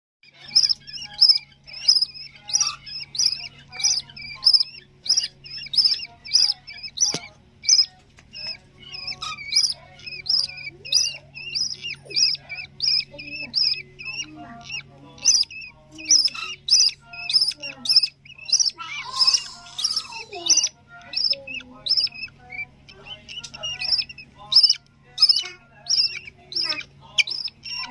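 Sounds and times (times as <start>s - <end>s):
chicks begging calls: 0.2s - 27.9s.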